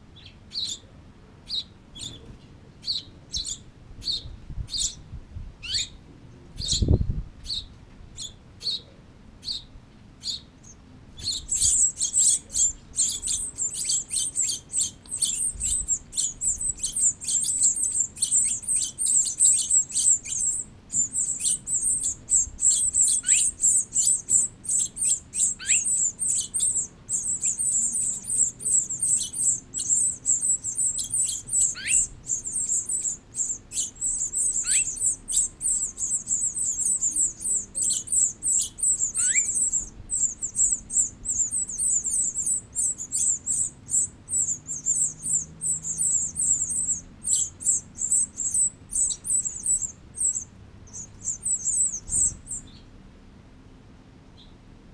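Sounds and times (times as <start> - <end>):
descending bird calls: 0.0 - 5.0, 5.6 - 6.0, 6.6 - 52.9
nestlings chirping: 0.2 - 6.0, 6.6 - 52.9.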